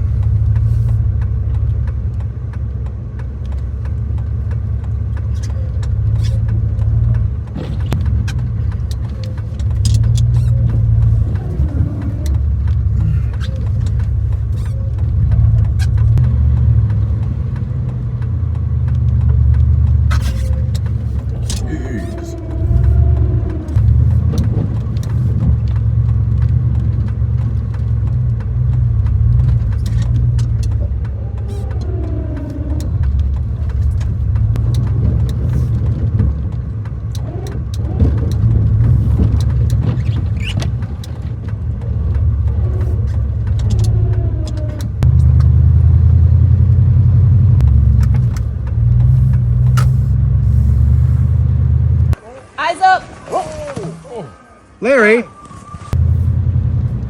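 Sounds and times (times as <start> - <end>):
pickup truck engine rumbling: 0.0 - 52.3, 54.5 - 57.0.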